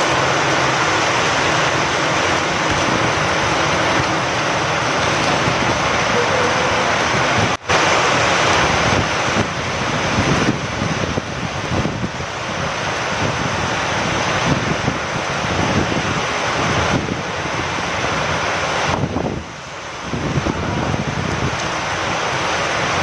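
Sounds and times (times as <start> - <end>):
steady rain with wind: 0.0 - 23.0.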